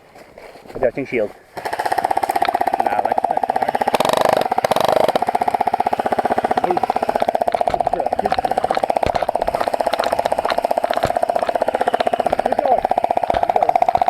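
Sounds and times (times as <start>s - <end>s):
motor humming with rapid pulse: 1.6s - 14.0s
sharp clicks: 1.6s - 14.0s.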